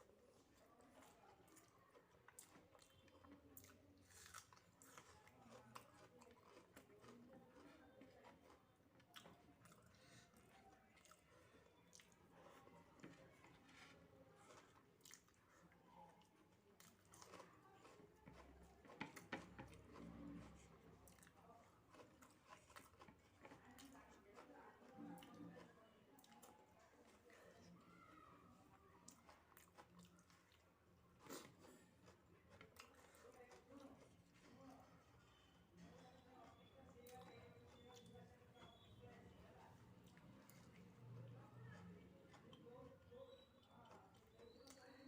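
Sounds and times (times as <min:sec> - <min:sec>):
chewing soft wet food: 0:00.0 - 0:45.0.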